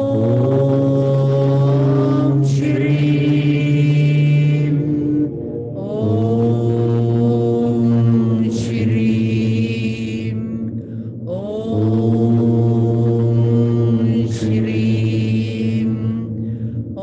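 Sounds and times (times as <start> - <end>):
woman chanting: 0.0 - 17.0.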